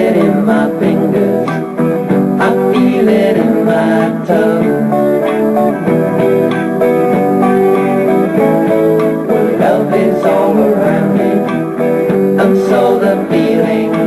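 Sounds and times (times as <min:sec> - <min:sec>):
guitar pop music: 0:00.0 - 0:14.0.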